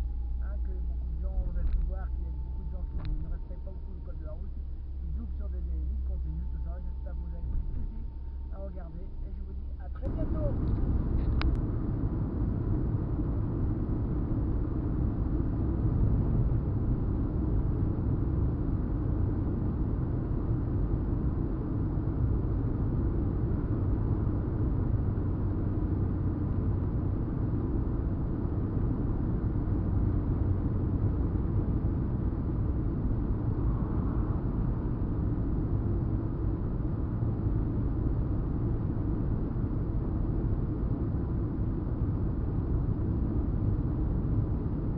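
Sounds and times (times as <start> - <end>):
car cabin road and engine rumble: 0.0 - 44.9.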